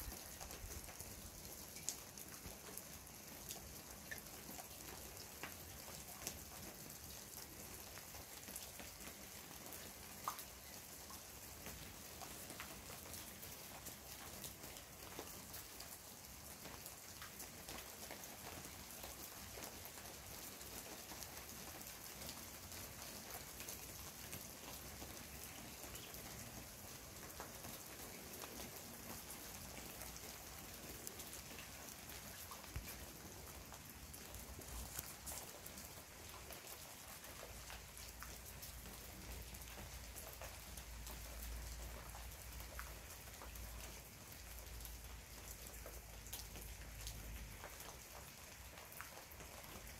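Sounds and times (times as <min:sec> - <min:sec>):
raindrops striking a surface: 0:00.0 - 0:49.9
steady rain: 0:00.0 - 0:49.9.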